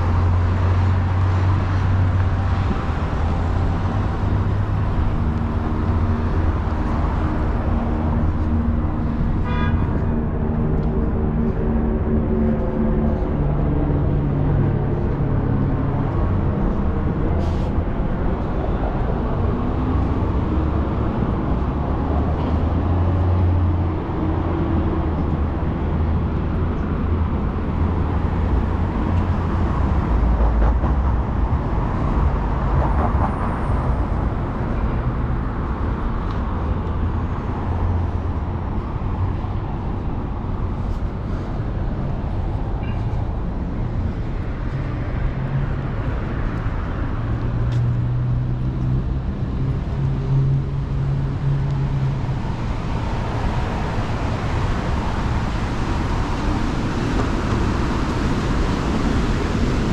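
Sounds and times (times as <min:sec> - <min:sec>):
passing motor traffic: 0:00.0 - 0:59.9.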